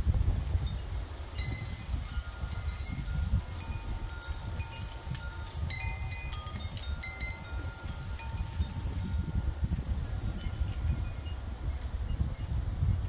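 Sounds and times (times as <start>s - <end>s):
wind buffeting microphone: 0.0s - 13.0s
wind chimes ringing: 0.1s - 13.0s.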